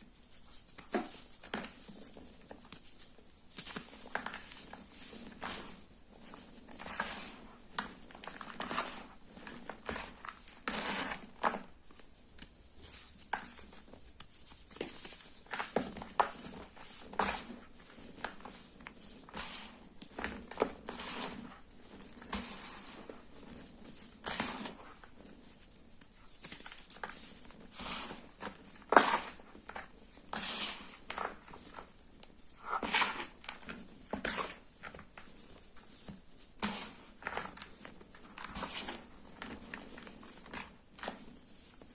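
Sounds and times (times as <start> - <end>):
chalk crunching and crackling: 0.0 - 41.9.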